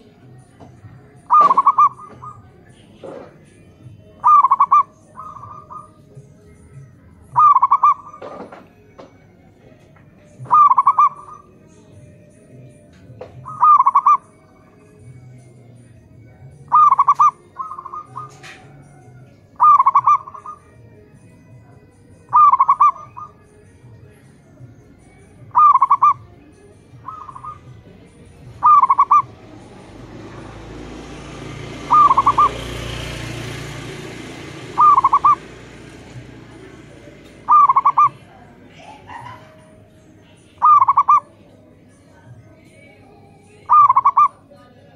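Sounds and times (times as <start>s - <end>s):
dove cooing: 0.0s - 8.7s, 10.2s - 11.9s, 12.6s - 15.8s, 16.4s - 41.6s, 42.8s - 44.6s.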